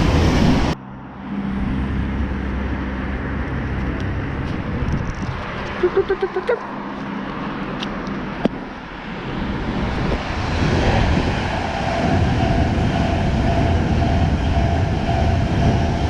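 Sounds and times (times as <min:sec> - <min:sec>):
train rushing past: 0:00.0 - 0:16.0.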